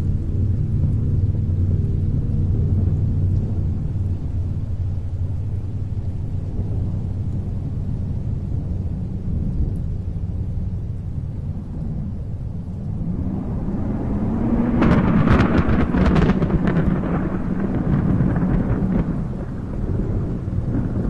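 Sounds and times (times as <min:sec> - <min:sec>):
boat engine rumble: 0:00.0 - 0:21.0.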